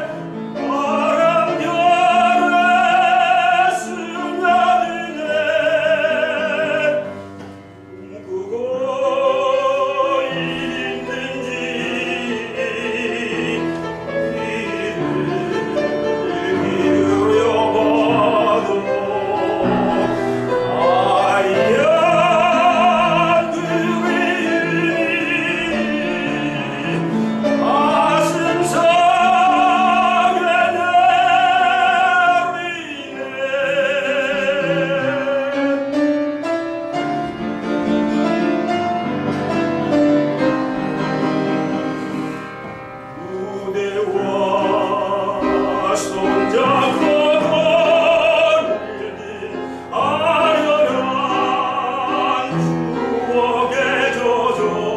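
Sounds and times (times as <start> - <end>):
man singing operatic tenor: 0.0 - 7.2, 7.9 - 36.2, 43.1 - 54.9
piano accompaniment: 0.0 - 54.9.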